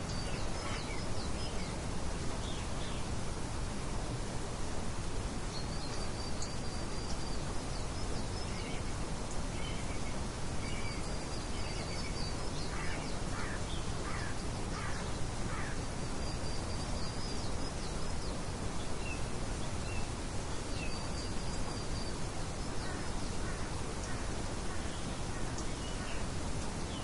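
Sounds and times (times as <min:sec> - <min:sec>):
small birds chirping: 0:00.0 - 0:03.2, 0:05.4 - 0:27.0.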